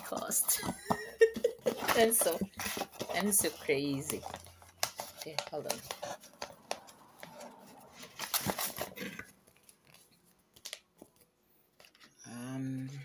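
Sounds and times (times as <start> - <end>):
paper rustling and crinkling: 0.0 - 12.1.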